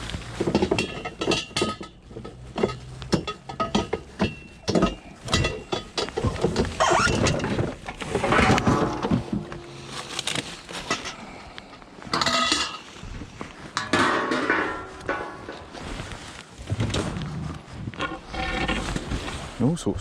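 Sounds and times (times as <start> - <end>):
scrap metal clattering: 0.1 - 19.6.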